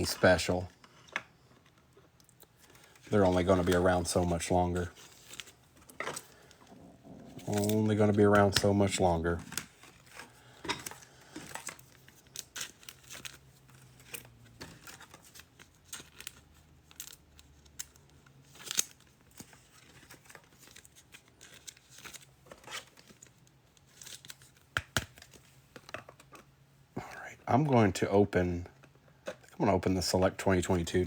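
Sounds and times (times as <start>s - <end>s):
packaging crinkling and rustling: 0.0s - 26.5s.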